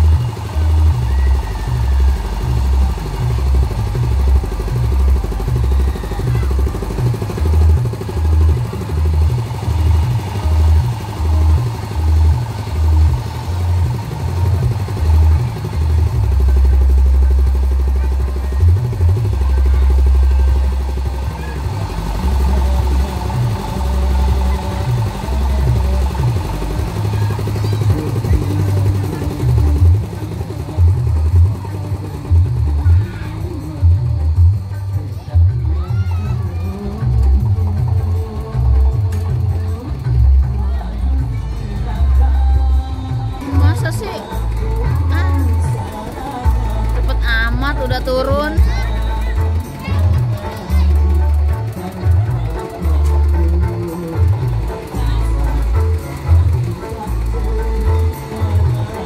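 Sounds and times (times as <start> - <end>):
bass line from loudspeakers: 0.0 - 59.0
crowd voices: 0.0 - 59.0
machinery hum: 0.0 - 59.0.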